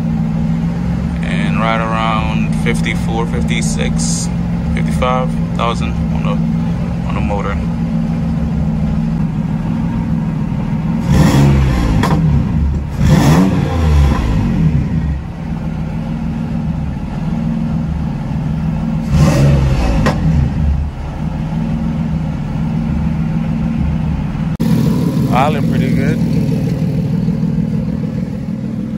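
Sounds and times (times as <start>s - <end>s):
engine revs blipped: 0.0s - 28.9s
turbocharged car engine idling: 0.0s - 28.9s.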